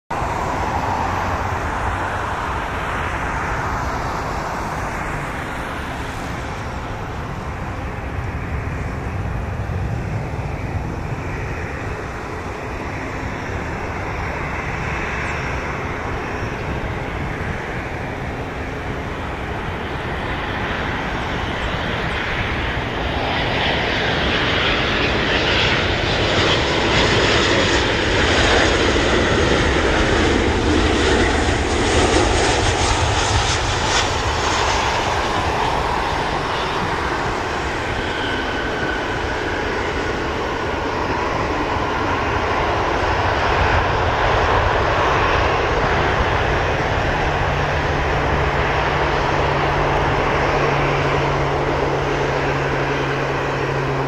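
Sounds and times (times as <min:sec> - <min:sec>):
jet airliner landing: 0:00.1 - 0:54.0.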